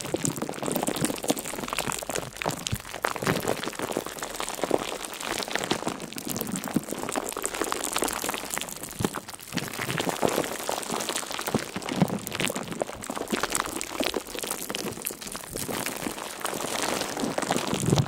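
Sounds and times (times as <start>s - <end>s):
crackling patter of clicks and pops: 0.0s - 18.0s.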